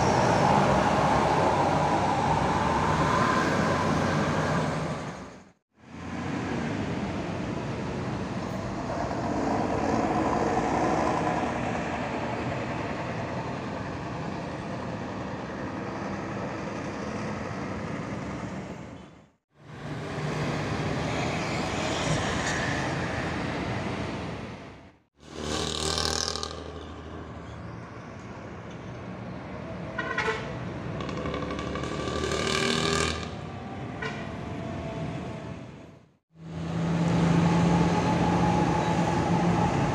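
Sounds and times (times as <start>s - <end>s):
bus diesel engines pulling away: 0.0s - 24.9s, 30.6s - 39.9s
road traffic: 0.0s - 39.9s.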